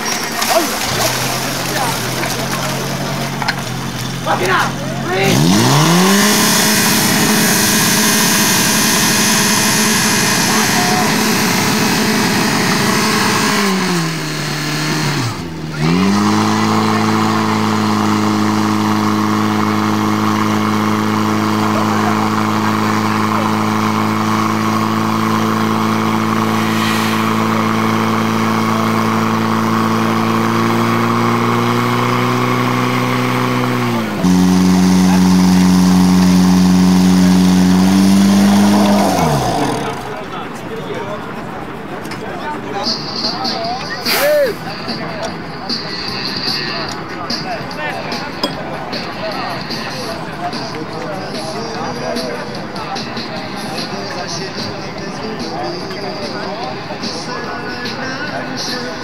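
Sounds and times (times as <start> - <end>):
fire pump engine running: 0.0 - 59.0.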